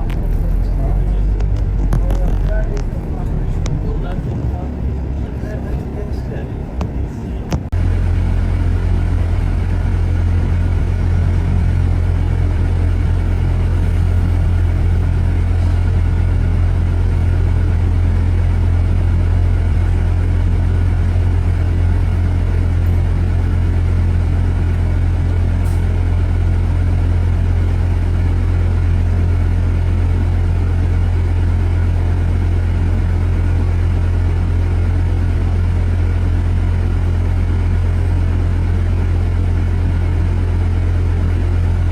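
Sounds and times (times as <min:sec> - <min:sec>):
vehicle engine rumbling: 0:00.0 - 0:41.9.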